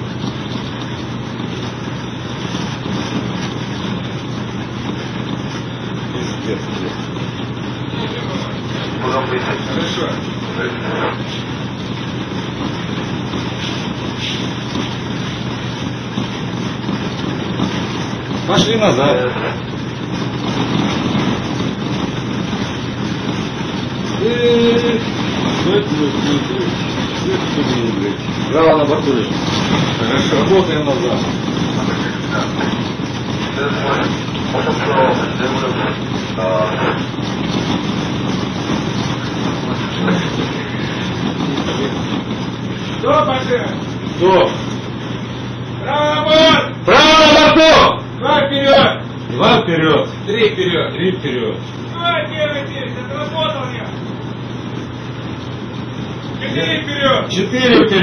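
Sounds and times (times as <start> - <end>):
rushing noise: 0.0 - 58.0
ship machinery hum: 0.0 - 58.0.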